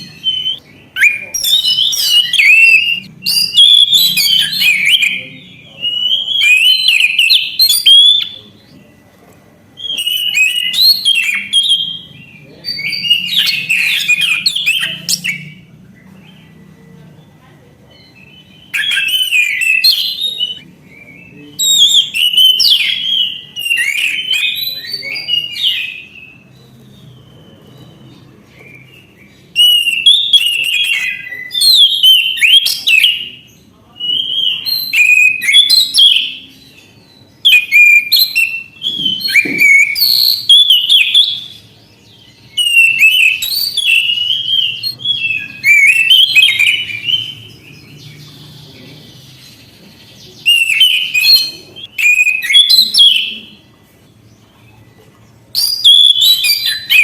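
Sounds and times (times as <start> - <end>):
thrush singing whistled phrases: 0.0 - 8.6, 9.8 - 15.7, 18.0 - 26.5, 28.7 - 36.8, 37.4 - 41.7, 42.4 - 47.9, 50.4 - 53.6, 55.6 - 57.0.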